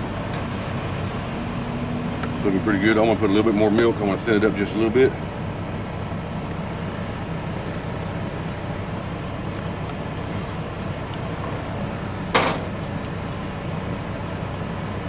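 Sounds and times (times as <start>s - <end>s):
truck cab mechanical hum: 0.0s - 15.0s.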